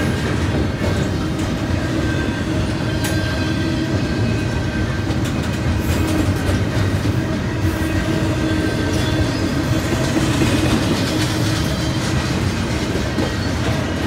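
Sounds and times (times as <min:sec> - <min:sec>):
steel wheels on rail: 0:00.0 - 0:14.0.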